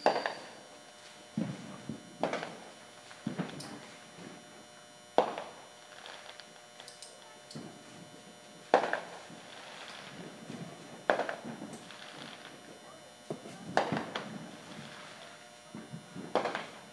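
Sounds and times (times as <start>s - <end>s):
firework bangs with echo: 0.0s - 0.6s, 1.4s - 4.5s, 5.1s - 6.4s, 7.5s - 16.9s.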